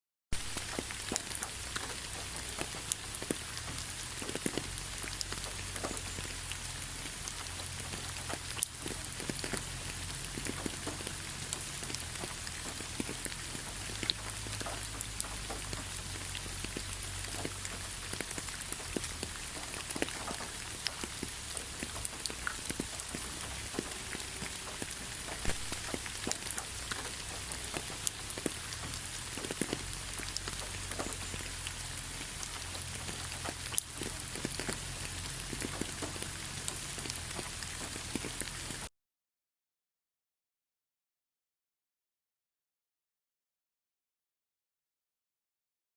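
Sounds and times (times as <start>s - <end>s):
raindrops ticking on surfaces: 0.3s - 38.9s
steady rain hiss: 0.4s - 38.9s.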